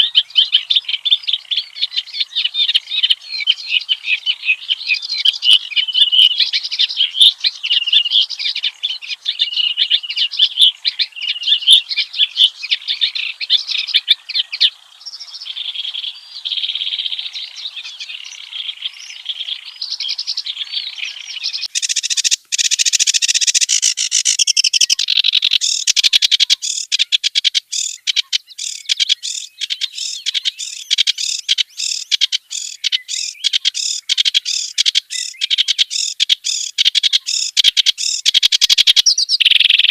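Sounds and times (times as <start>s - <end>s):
warbler chattering song: 0.0s - 39.9s.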